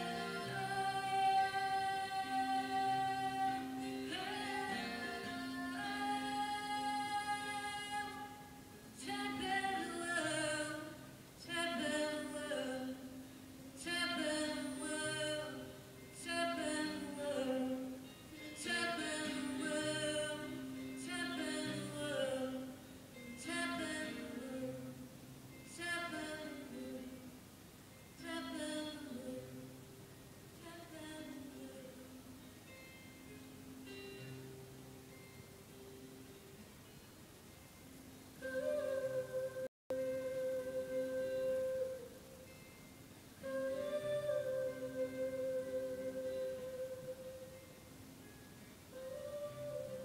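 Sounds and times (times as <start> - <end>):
woman singing: 0.0 - 27.4, 28.2 - 29.9, 30.6 - 32.5, 38.4 - 42.7, 43.4 - 47.7, 48.9 - 50.0
acoustic guitar: 0.0 - 50.0.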